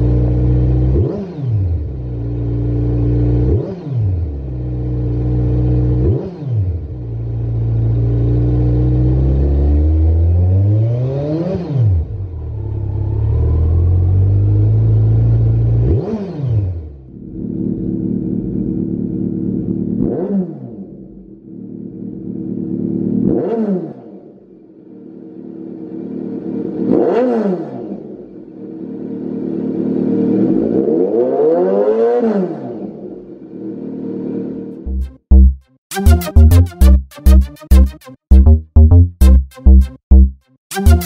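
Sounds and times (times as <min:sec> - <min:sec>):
motorcycle engine revving: 0:00.0 - 0:35.6.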